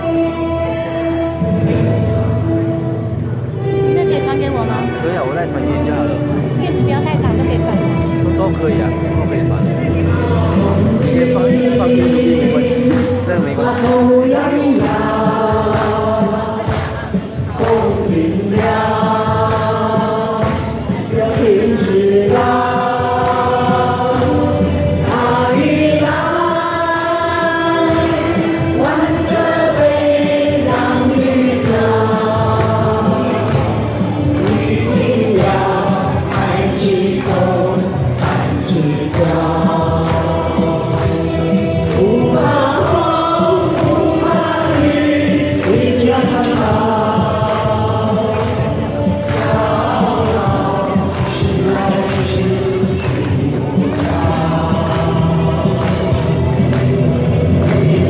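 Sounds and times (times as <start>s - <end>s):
accompaniment over sound system: 0.0s - 58.0s
choir singing a folk song: 9.9s - 58.0s.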